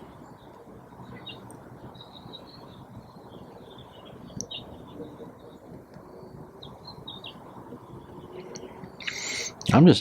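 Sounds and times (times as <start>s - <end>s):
low steady background noise: 0.0s - 10.0s
small birds chirping: 0.0s - 10.0s.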